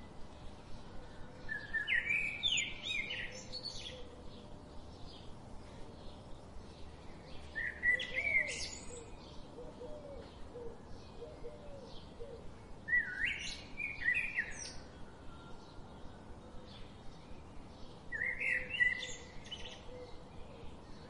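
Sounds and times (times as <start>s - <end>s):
bird song phrases: 0.0s - 21.0s.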